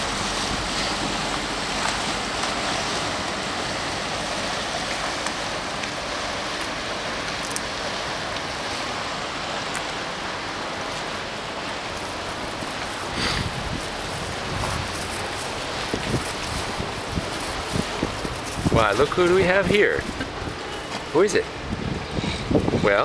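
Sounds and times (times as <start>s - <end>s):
water washing: 0.0s - 23.0s
wind: 0.0s - 23.0s.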